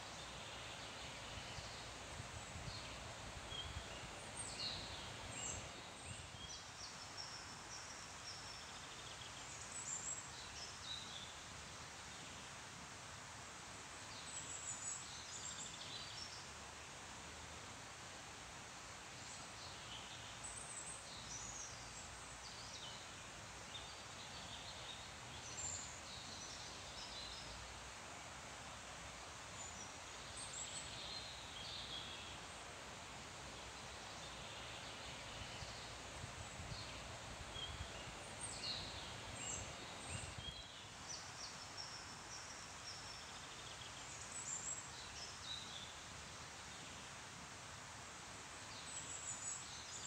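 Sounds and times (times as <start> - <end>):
rustling trees: 0.0 - 50.0.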